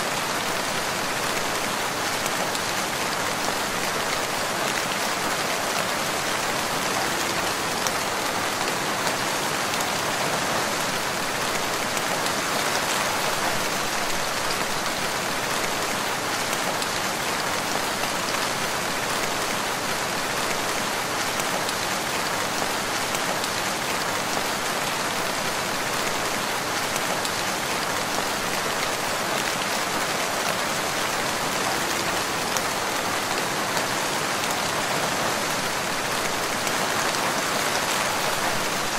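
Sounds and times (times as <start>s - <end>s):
dense rain pattering: 0.0s - 38.9s.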